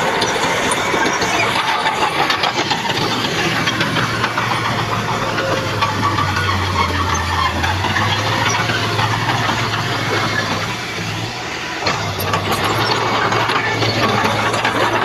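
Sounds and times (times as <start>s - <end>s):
low diesel engine hum: 0.0s - 15.0s
metallic clatter: 0.0s - 15.0s.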